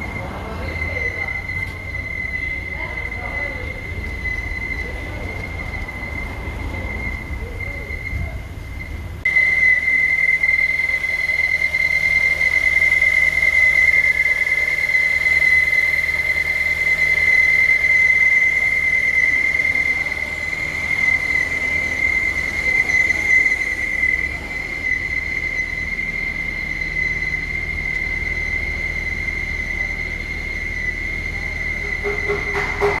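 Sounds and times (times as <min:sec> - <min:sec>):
engine running with whine: 0:00.0 - 0:33.0.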